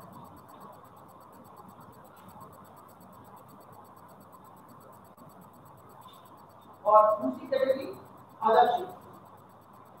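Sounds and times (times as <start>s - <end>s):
low background hiss: 0.0s - 10.0s.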